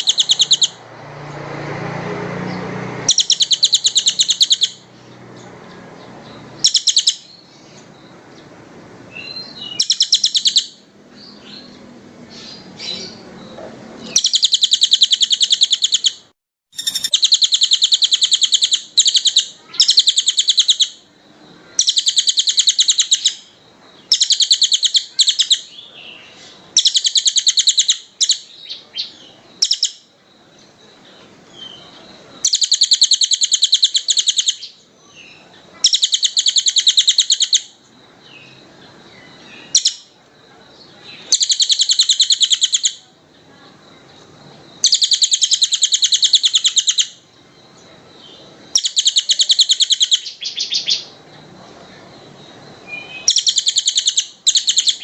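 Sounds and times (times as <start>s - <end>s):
songbird fast trills: 0.0s - 0.8s, 2.6s - 5.5s, 6.1s - 8.2s, 9.1s - 10.8s, 11.4s - 40.2s, 40.8s - 43.1s, 44.8s - 51.5s, 52.3s - 55.0s.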